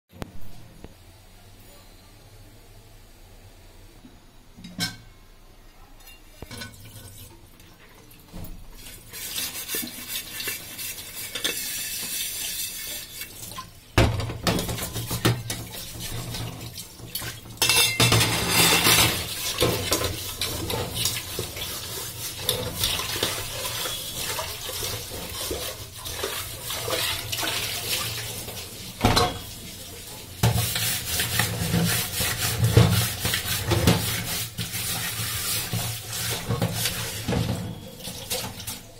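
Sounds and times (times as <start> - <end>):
pot clanking against a sink: 4.6 - 5.2, 6.0 - 38.9.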